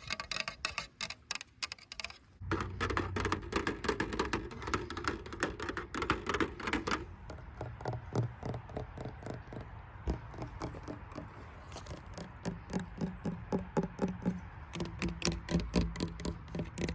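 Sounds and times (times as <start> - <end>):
tapping on a hard surface: 0.0 - 16.9.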